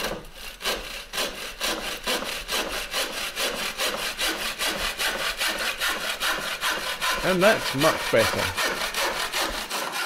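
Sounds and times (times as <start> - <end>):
bow saw rasping through log: 0.0 - 10.0.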